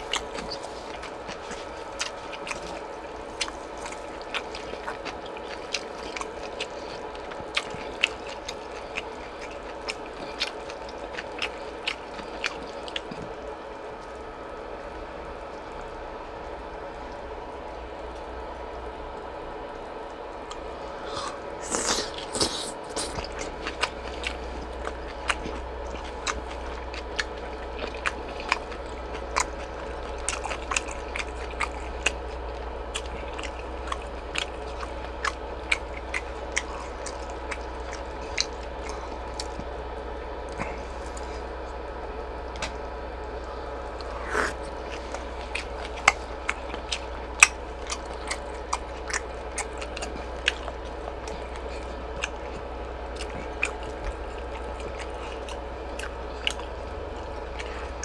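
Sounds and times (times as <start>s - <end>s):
chewing with wet mouth clicks: 0.0s - 19.3s, 20.1s - 58.0s
steady low hum: 0.0s - 58.0s.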